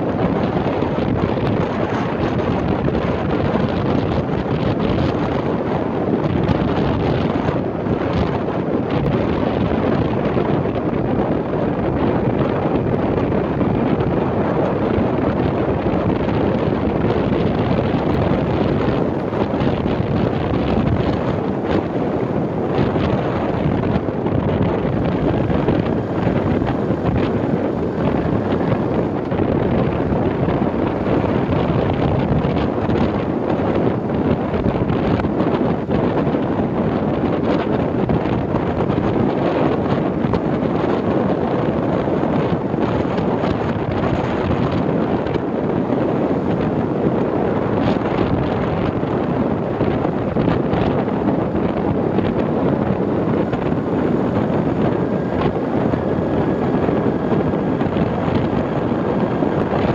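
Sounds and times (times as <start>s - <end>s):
motorcycle running noise: 0.0s - 59.9s
vehicle rumble on paved road: 0.0s - 59.9s
wind rushing over microphone: 0.0s - 59.9s.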